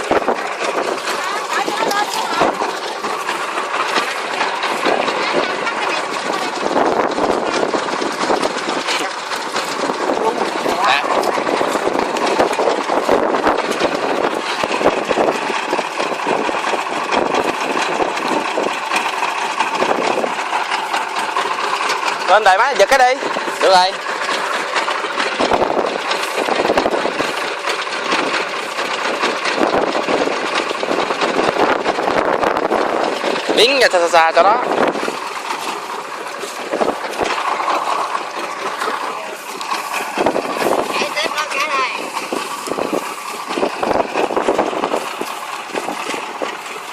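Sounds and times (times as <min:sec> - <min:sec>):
combine harvester engine running: 0:00.0 - 0:46.9
mechanical clatter: 0:00.0 - 0:46.9
water and mud gurgling: 0:00.0 - 0:46.9.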